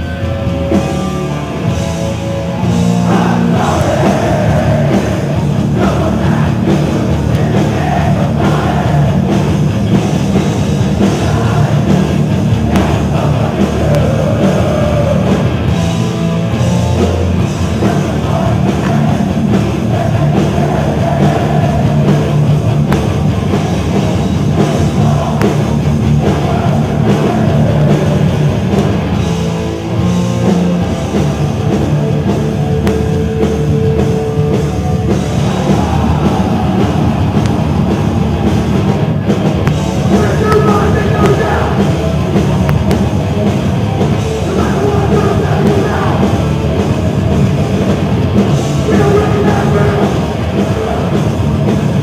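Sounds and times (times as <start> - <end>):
punk band playing live: 0.0 - 52.0.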